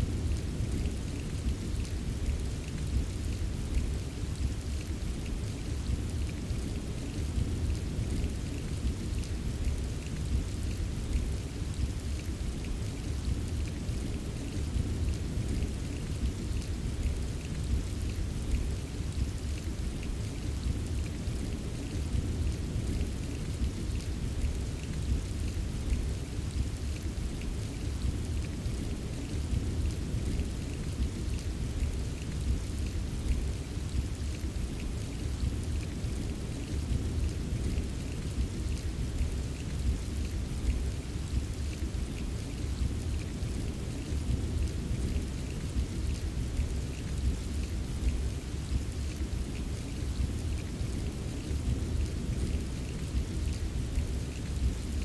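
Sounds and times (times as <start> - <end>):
steady rain: 0.0 - 55.0
raindrop ticks: 0.2 - 55.0.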